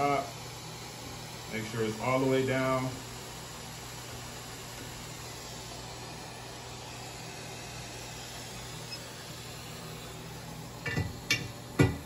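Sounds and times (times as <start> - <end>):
hot air gun hissing: 0.0 - 12.0.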